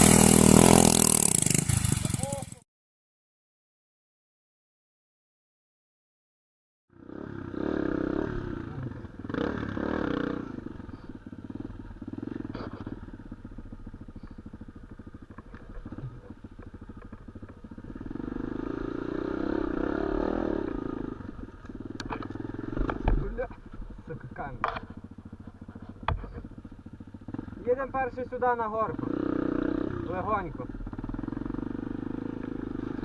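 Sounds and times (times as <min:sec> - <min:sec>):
motorcycle engine revving: 0:00.0 - 0:02.6, 0:06.9 - 0:33.0.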